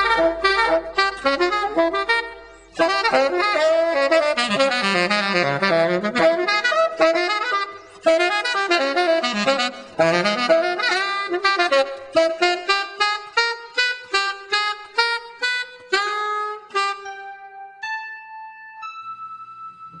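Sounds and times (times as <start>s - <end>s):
jazz saxophone music: 0.0s - 19.0s.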